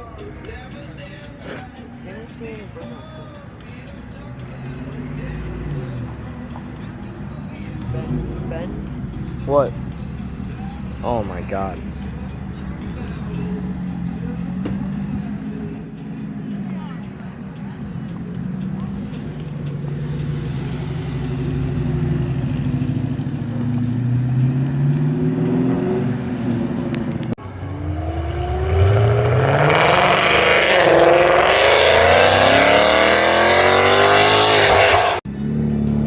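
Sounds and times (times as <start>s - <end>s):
car engine running: 0.0s - 36.0s
car accelerating hard: 4.2s - 36.0s.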